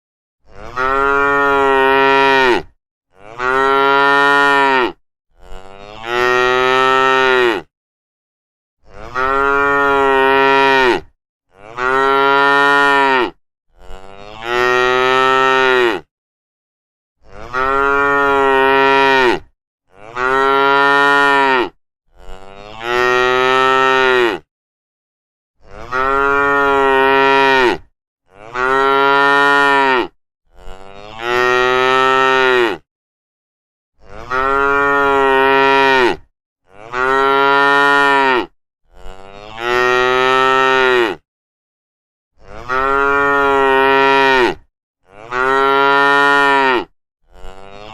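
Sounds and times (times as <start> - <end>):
cow mooing: 0.4 - 7.7, 8.8 - 16.1, 17.2 - 24.5, 25.6 - 32.9, 34.0 - 41.2, 42.4 - 47.9.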